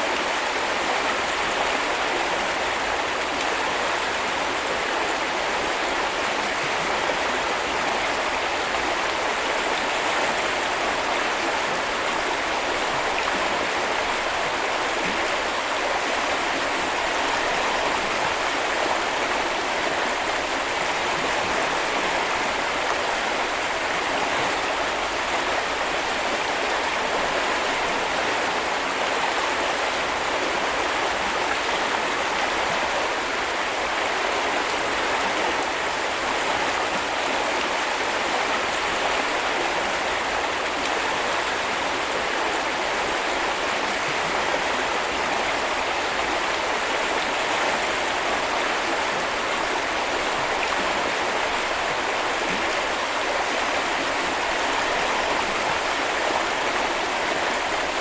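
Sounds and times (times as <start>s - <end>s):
brook flowing over stones: 0.0s - 58.0s.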